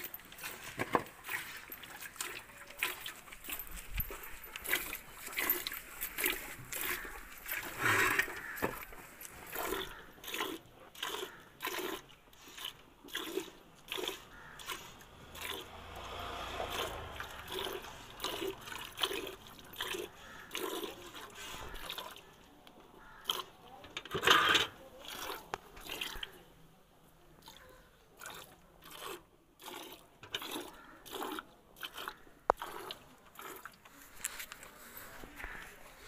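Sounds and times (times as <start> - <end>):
milk squirting from teats: 0.0 - 22.4, 23.0 - 26.4, 28.2 - 34.7.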